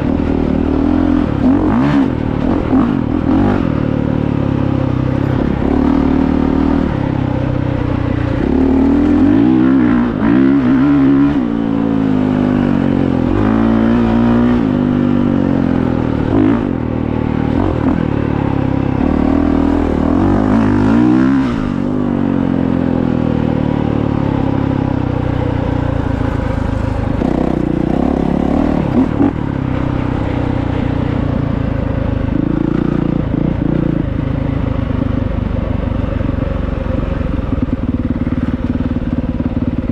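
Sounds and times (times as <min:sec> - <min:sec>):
dirt bike engine revving: 0:00.0 - 0:31.6, 0:32.2 - 0:34.6.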